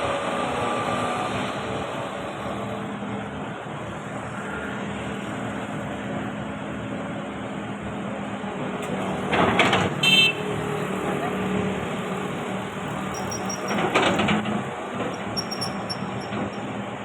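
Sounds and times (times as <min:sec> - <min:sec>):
excavator engine humming: 0:00.0 - 0:17.0.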